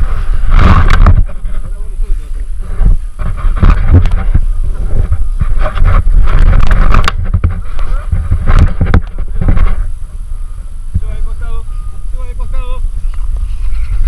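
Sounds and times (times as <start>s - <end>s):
sled scraping over snow: 0.0s - 14.0s.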